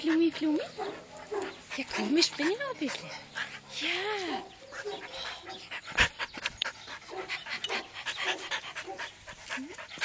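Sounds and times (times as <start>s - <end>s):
small dog panting: 0.0s - 10.0s.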